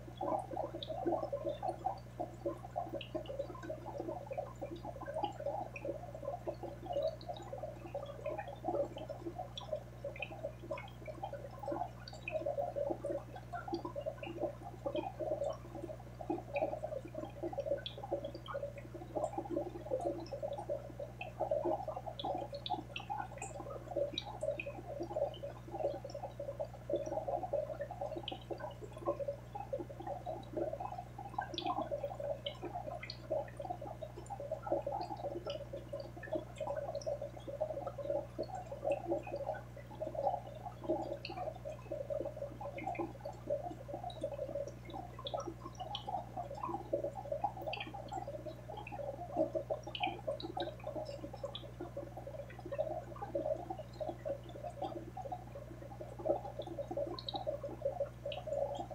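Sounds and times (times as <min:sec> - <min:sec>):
aquarium water bubbling: 0:00.0 - 0:58.9
small ticks: 0:00.0 - 0:58.9.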